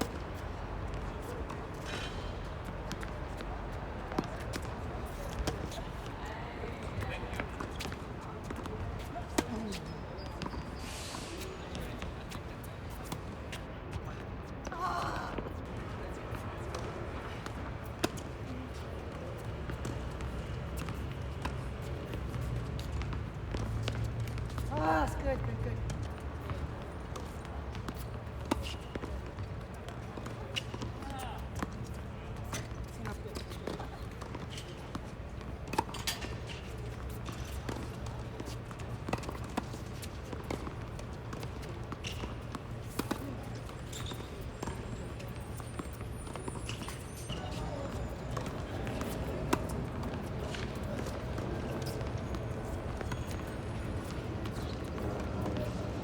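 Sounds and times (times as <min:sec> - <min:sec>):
tennis ball bounces: 0:04.1 - 0:06.1, 0:06.8 - 0:10.6, 0:15.6 - 0:35.0, 0:35.7 - 0:44.7, 0:45.3 - 0:56.0.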